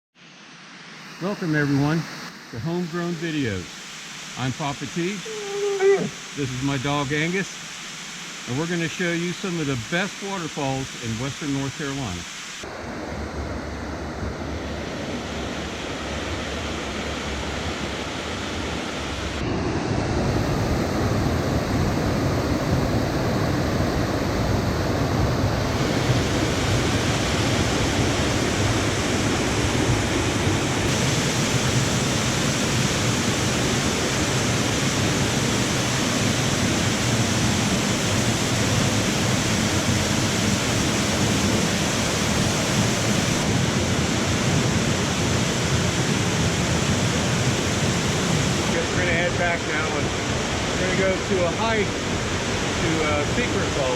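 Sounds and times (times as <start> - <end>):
waterfall rushing: 0.7 - 13.0, 15.0 - 53.9.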